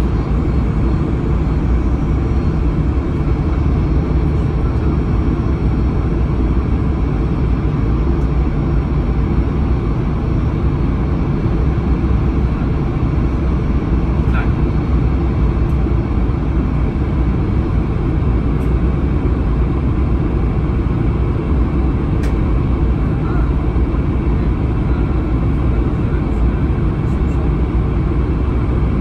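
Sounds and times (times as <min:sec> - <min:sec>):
jet engines droning: 0:00.0 - 0:29.0.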